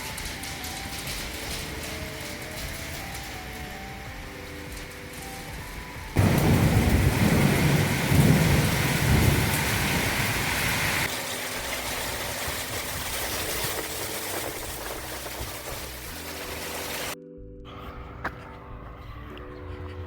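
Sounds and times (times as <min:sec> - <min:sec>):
heavy rain pouring: 0:00.0 - 0:17.2.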